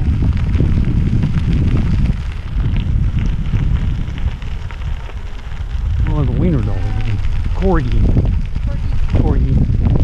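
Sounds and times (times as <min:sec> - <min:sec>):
bicycle tyres crunching on gravel: 0:00.0 - 0:10.0
wind rumbling on microphone: 0:00.0 - 0:10.0.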